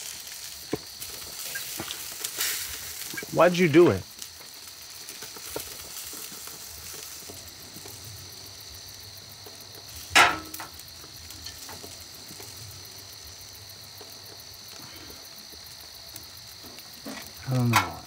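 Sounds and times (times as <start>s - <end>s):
food sizzling on grill: 0.0s - 18.0s.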